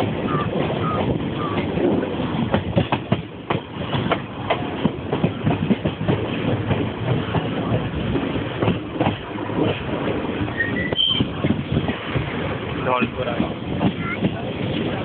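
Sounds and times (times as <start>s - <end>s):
rumble of moving coaches: 0.0s - 15.0s
train wheels clattering: 0.0s - 15.0s.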